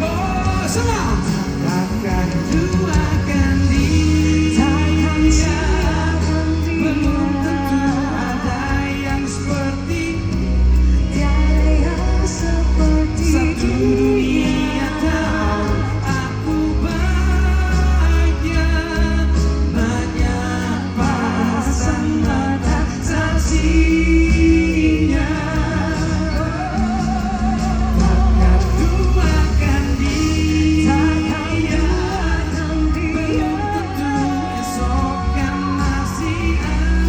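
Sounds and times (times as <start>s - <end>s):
bass line: 0.0s - 37.0s
people singing with vibrato: 0.0s - 37.0s
pop band playing: 0.0s - 37.0s.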